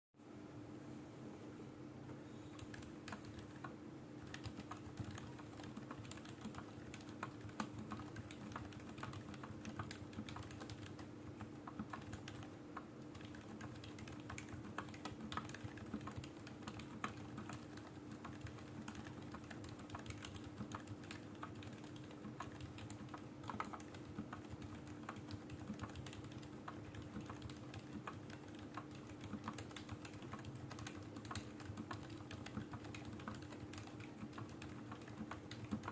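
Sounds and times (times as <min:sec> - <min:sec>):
soft keyboard typing: 0:02.3 - 0:35.9.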